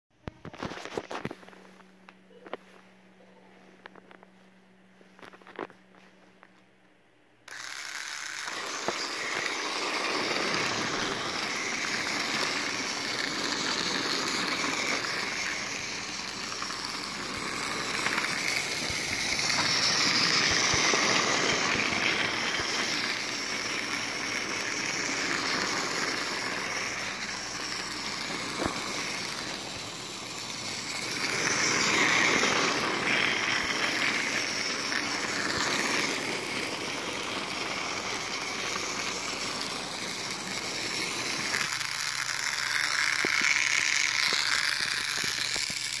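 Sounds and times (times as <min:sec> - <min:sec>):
toy train motor whirring: 0:07.5 - 0:46.0
toy train rattling along track: 0:07.5 - 0:46.0.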